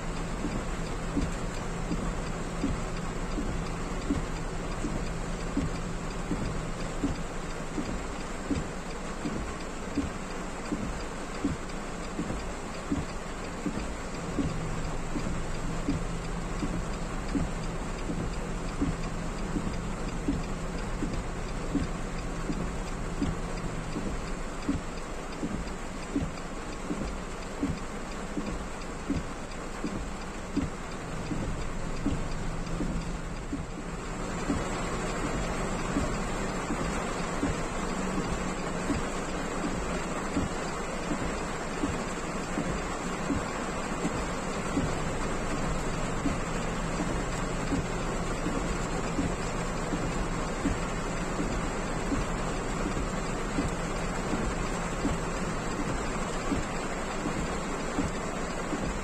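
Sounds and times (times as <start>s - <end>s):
heavy rain on car roof: 0.0s - 59.0s
soft regular tick: 0.0s - 59.0s.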